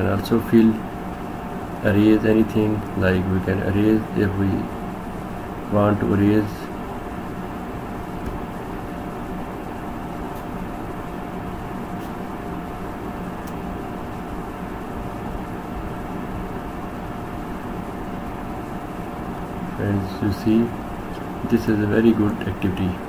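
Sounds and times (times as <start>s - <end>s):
faint constant hum: 0.0s - 23.0s.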